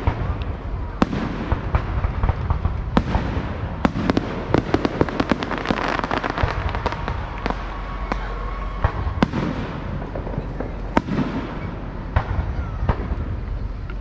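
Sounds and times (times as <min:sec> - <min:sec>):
fireworks bangs and cracks: 0:00.0 - 0:14.0.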